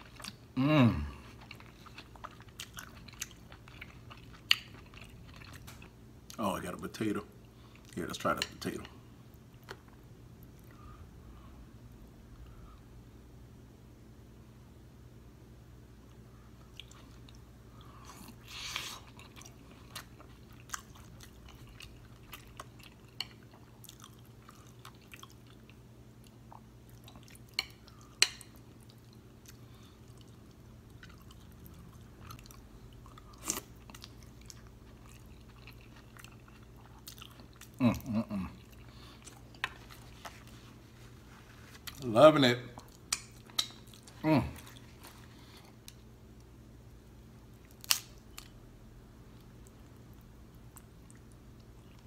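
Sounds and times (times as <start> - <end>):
close chewing and wet mouth sounds: 0.0 - 0.6, 1.2 - 10.8, 16.0 - 48.6, 49.2 - 52.0.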